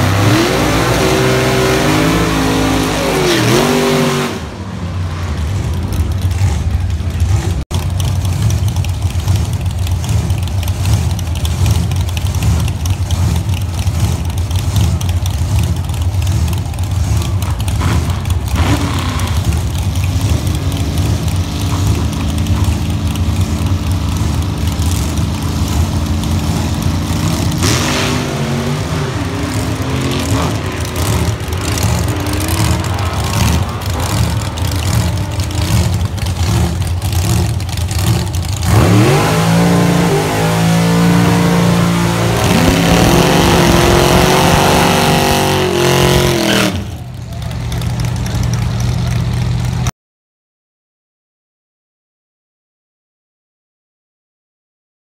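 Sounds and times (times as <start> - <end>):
engine revving: 0.0 - 47.1
drag car engines idling: 0.0 - 49.9.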